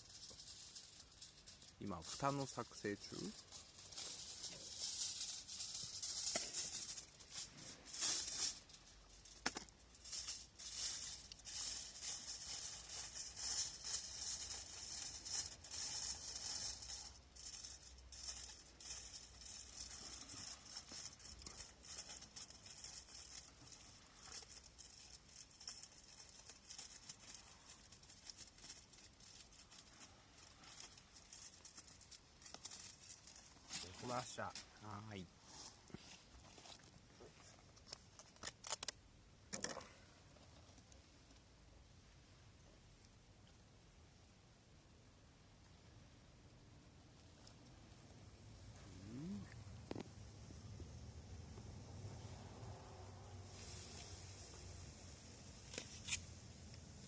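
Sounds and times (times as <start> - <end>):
material rustling and crinkling: 0.0 - 41.5, 51.5 - 57.0.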